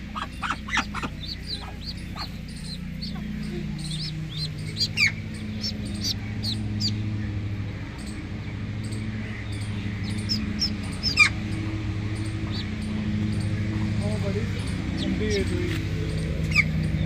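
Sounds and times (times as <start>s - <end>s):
birds chirping: 0.0s - 17.0s
steady low drone: 0.0s - 17.0s.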